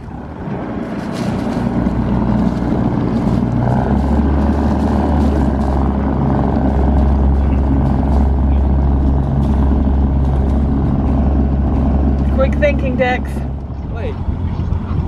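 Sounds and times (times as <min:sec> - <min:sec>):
boat engines revving: 0:00.0 - 0:15.0.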